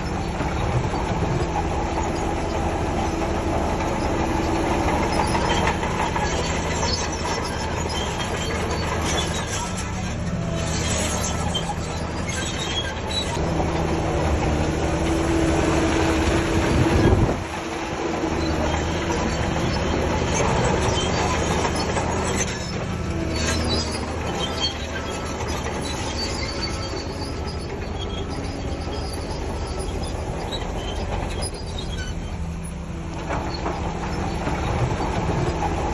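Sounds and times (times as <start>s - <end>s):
bulldozer diesel engine under load: 0.0s - 35.9s
steel tracks clanking and squealing: 0.0s - 35.9s.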